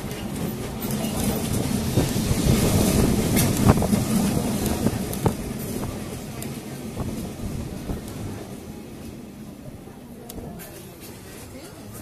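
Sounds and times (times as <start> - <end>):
tram rumbling and rattling: 0.0 - 12.0.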